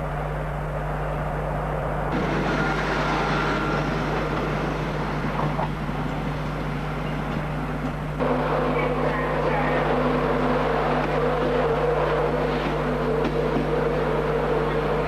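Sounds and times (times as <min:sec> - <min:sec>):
locomotive engine droning: 0:00.0 - 0:15.0.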